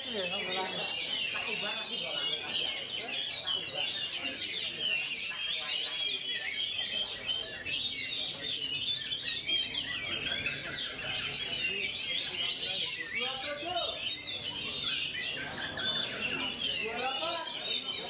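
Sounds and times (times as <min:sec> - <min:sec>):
bird singing chirps and whistles: 0:00.0 - 0:18.0.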